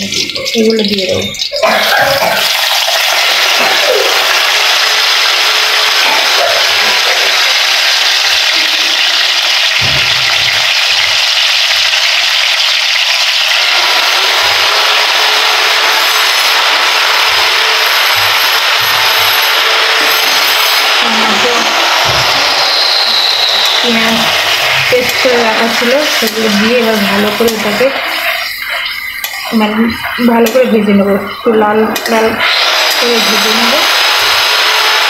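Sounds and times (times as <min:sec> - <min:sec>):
paste sizzling in hot oil: 0:00.0 - 0:30.7.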